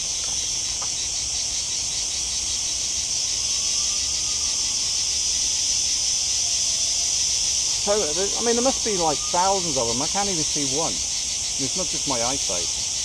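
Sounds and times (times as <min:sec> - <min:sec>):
insects buzzing chorus: 0:00.0 - 0:13.0.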